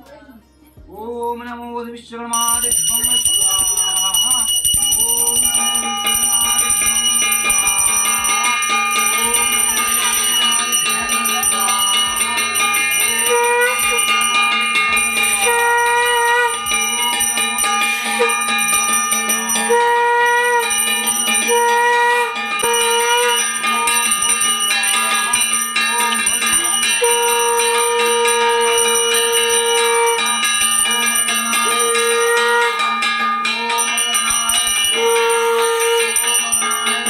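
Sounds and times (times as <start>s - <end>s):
hand bell ringing: 2.3s - 37.0s
held tone: 2.4s - 37.0s.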